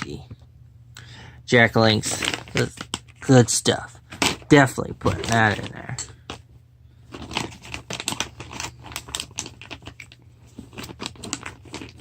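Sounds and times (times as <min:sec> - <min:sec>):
plastic packaging crinkling: 0:01.6 - 0:06.4, 0:07.0 - 0:12.0.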